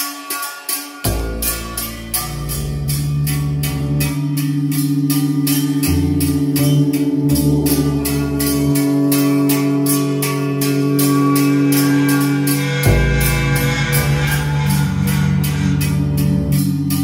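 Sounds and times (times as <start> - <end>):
electronic music with plucked strings: 0.0 - 17.0
deep bass line: 1.1 - 17.0.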